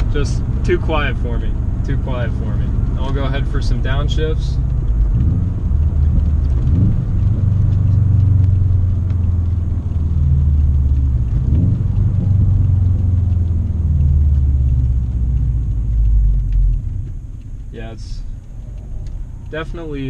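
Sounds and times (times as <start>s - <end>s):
car engine revving from inside: 0.0s - 17.2s.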